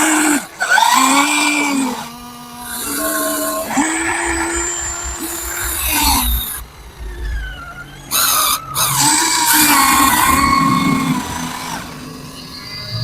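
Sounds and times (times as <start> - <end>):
toy excavator motors whining: 0.0 - 13.0.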